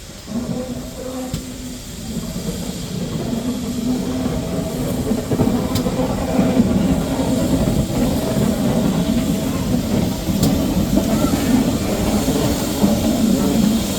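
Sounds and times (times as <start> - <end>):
train running on railway: 0.0 - 13.9.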